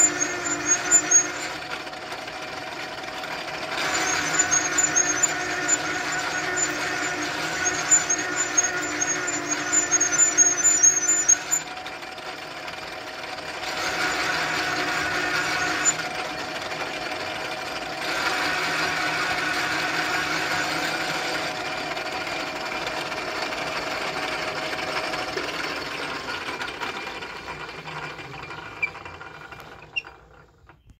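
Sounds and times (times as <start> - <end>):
lathe cutting noise: 0.0 - 30.5
metal lathe hum and whine: 0.0 - 30.5.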